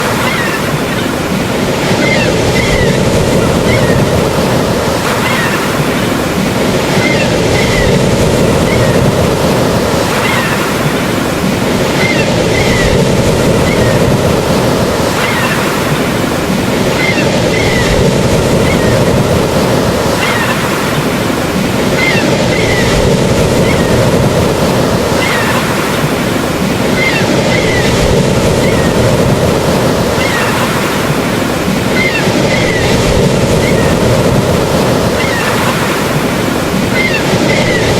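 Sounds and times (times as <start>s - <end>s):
ocean surf washing: 0.0s - 37.9s.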